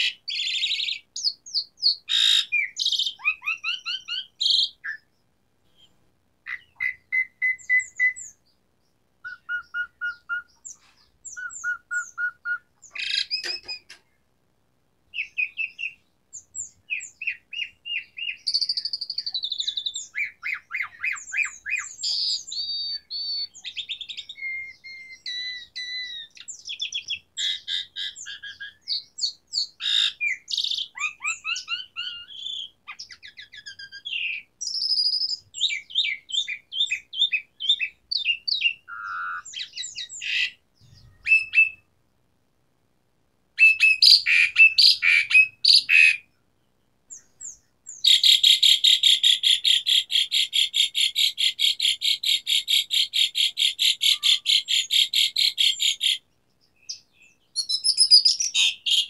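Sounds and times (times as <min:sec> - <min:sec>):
starling singing: 0:00.0 - 0:08.6, 0:09.2 - 0:14.0, 0:15.1 - 0:41.9, 0:43.6 - 0:46.3, 0:47.1 - 0:59.0.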